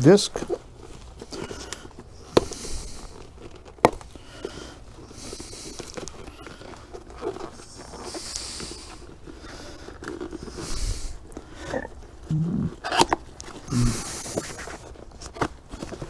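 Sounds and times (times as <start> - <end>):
cardboard box and paper rustling: 0.2 - 16.0.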